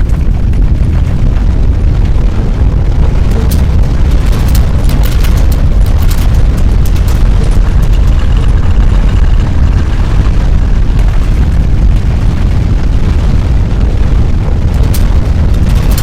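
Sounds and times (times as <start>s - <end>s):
crackles and rattles: 0.0s - 16.0s
deep earthquake rumble: 0.0s - 16.0s.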